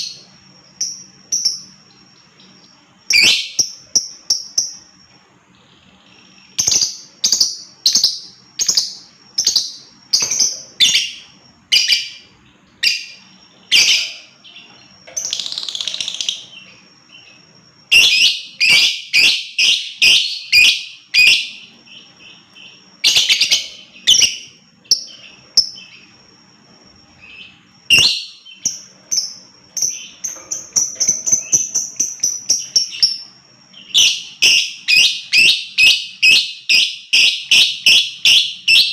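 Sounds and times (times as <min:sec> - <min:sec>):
bird shrill chirps: 0:00.0 - 0:38.9.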